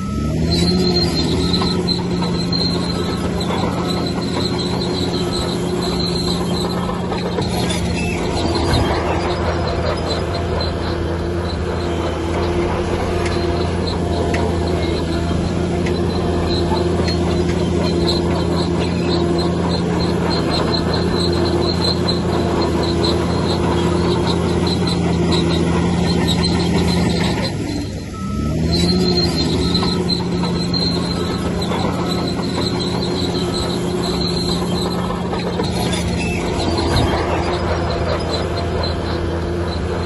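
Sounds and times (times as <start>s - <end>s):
bulldozer diesel engine: 0.0s - 40.0s
squealing steel tracks: 0.0s - 40.0s.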